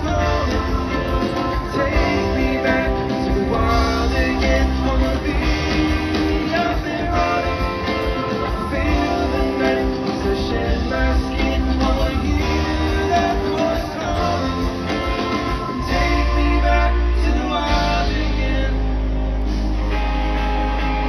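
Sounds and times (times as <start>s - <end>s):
live rock band: 0.0s - 21.0s.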